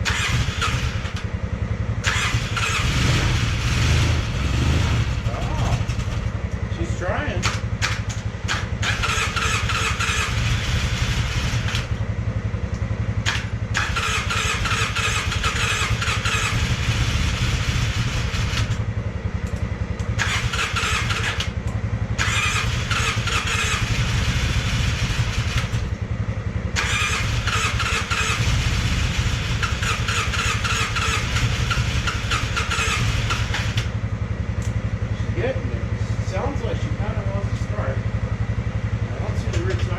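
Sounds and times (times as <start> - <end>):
engine cranking and sputtering: 0.0 - 39.9.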